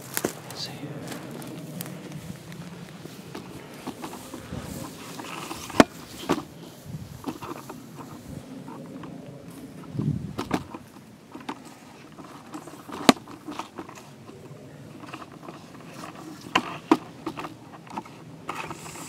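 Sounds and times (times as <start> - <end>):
camera handling rustling: 0.0 - 19.0.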